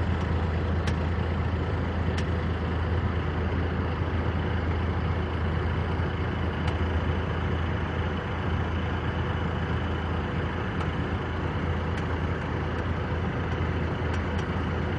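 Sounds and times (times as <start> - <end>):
road noise: 0.0 - 14.9
truck engine drone: 0.0 - 14.9.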